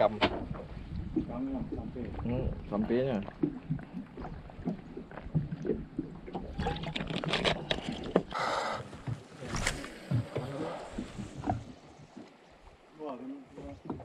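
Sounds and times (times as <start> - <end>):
knocks and clicks from boat hull: 0.0 - 12.3, 13.6 - 14.0.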